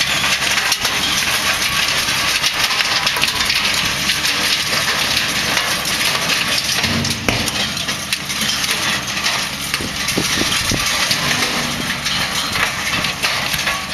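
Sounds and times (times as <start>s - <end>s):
tractor engine running: 0.0s - 13.9s.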